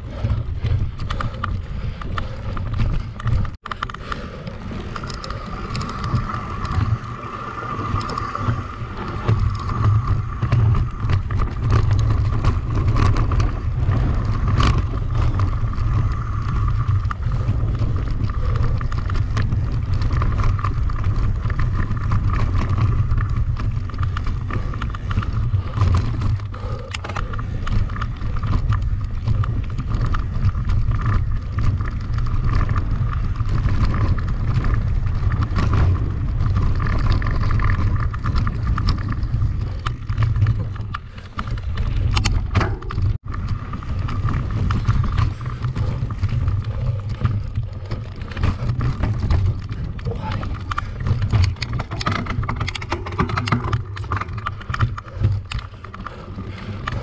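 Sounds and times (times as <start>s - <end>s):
bike rattling clicks: 0.0s - 57.0s
mountain bike rumbling over rough ground: 0.0s - 57.0s.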